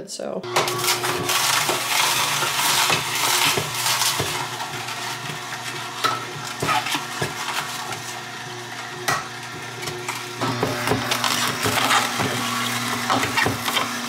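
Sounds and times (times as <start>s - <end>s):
electric juicer motor humming: 0.4s - 14.0s.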